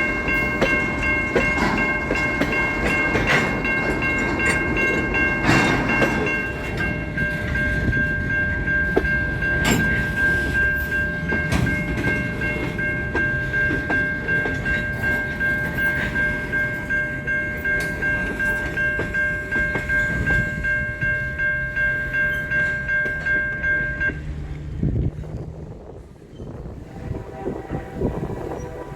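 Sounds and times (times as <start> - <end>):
train wheel clatter: 0.0 - 28.9.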